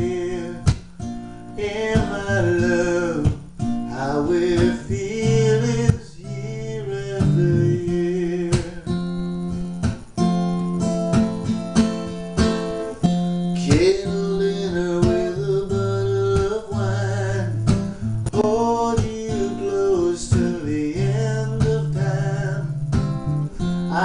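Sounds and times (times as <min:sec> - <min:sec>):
man singing: 0:00.0 - 0:09.3, 0:13.5 - 0:24.0
acoustic guitar strumming: 0:00.0 - 0:24.0.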